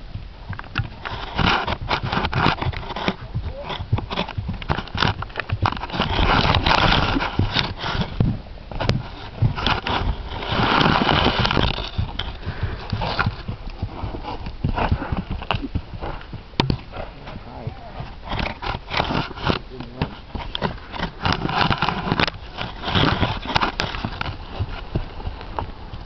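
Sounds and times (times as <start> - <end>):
horse hoofbeats on grass: 0.0 - 26.0.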